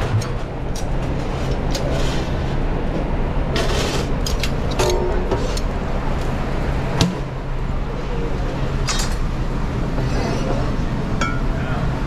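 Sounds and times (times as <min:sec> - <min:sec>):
kitchen hum and rush: 0:00.0 - 0:12.0.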